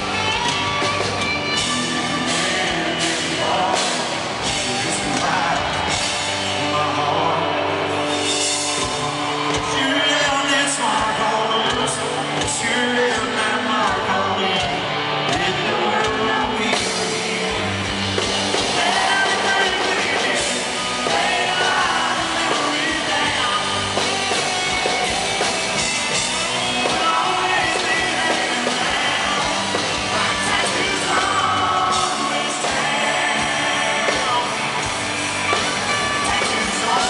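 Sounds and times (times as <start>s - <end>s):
electric guitar: 0.0s - 37.0s
live country rock band: 0.0s - 37.0s
man singing lead vocal: 1.5s - 25.5s, 26.1s - 37.0s.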